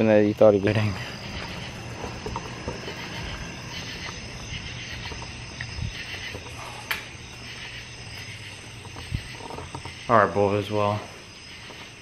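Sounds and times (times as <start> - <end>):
crickets and insects chirring: 0.0 - 12.0.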